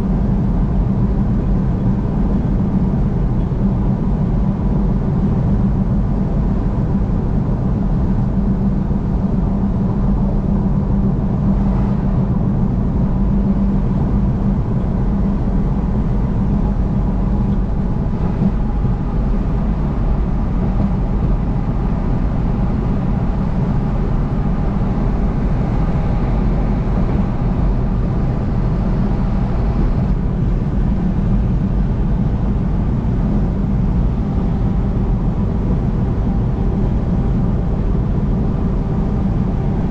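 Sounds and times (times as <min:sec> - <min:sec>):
car engine and tyre noise: 0:00.0 - 0:39.9
low hum: 0:00.0 - 0:39.9.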